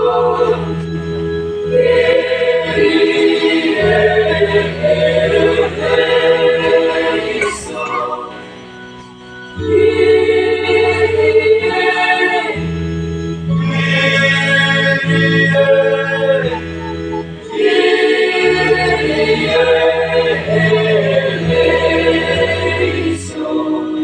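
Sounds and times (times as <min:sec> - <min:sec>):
children's choir singing: 0:00.0 - 0:01.0, 0:01.6 - 0:08.7, 0:09.6 - 0:12.7, 0:13.6 - 0:24.0.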